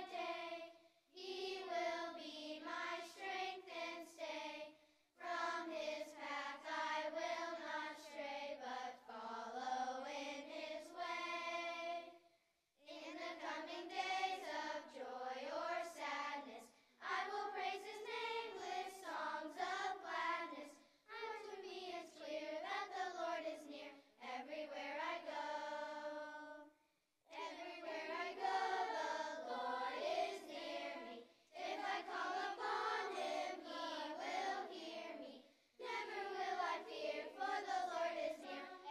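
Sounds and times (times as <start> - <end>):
children's choir singing: 0.0 - 12.2, 12.9 - 26.7, 27.3 - 38.9.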